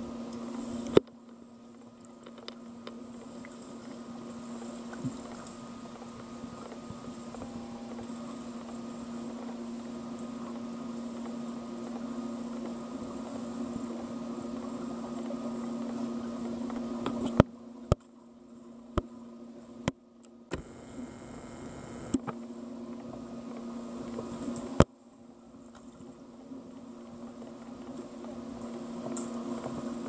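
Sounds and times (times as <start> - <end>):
underwater mechanical hum: 0.0 - 30.0.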